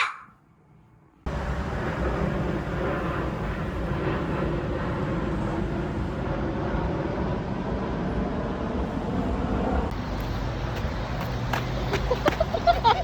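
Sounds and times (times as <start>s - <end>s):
low rumbling background noise: 0.4s - 13.0s.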